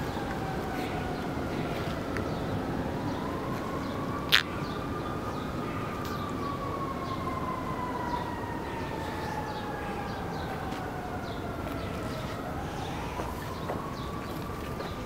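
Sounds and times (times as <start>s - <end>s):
airplane engine whine: 0.0s - 15.0s.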